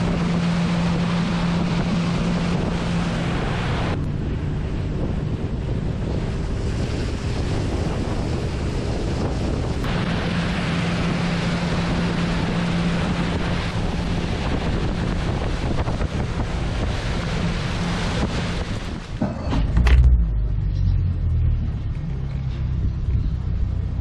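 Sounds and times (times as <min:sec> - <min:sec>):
outboard motor droning: 0:00.0 - 0:24.0
rushing water: 0:00.0 - 0:24.0
wind noise on microphone: 0:00.0 - 0:24.0.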